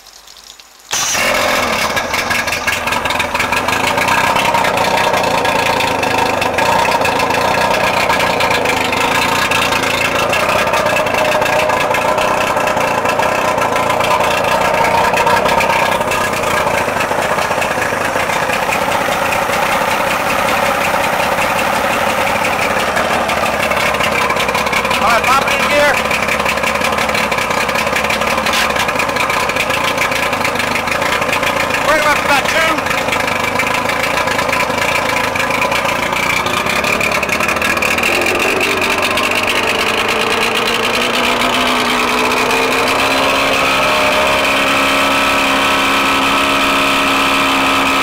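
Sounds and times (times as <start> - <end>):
outboard motor running: 0.9 - 48.0.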